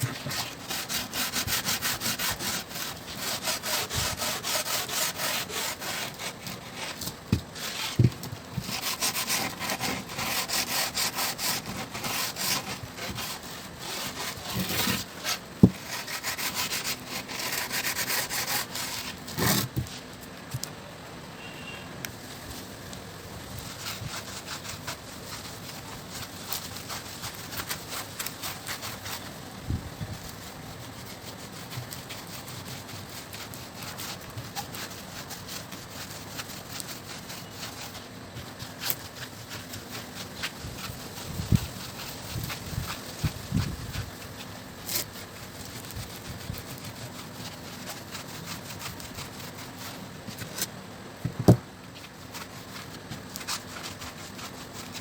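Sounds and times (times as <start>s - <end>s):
sanding strokes on wooden deck: 0.0s - 20.7s, 22.2s - 55.0s.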